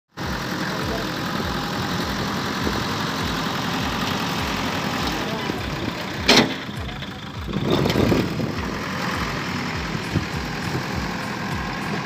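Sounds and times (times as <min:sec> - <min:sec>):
diesel engine idling: 0:00.1 - 0:12.0.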